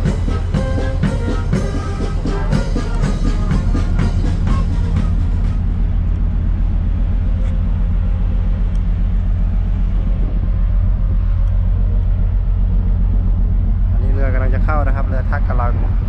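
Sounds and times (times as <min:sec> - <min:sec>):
diesel engines rumbling: 0:00.0 - 0:16.0.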